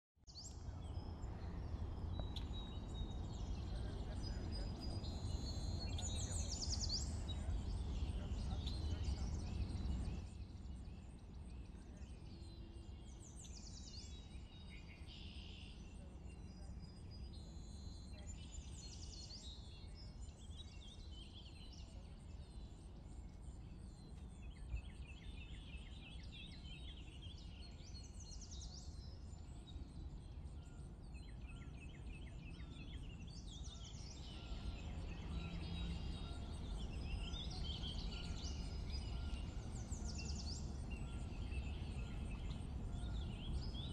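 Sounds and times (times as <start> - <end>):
birds chirping and singing: 0.3 - 43.9
steady low rumble: 0.5 - 14.9, 21.9 - 43.9.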